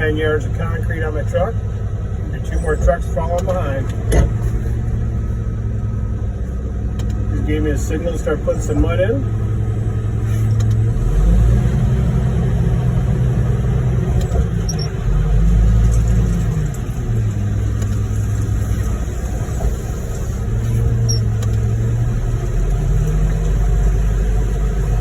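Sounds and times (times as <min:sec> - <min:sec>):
heavy diesel truck engine revving: 0:00.0 - 0:25.0.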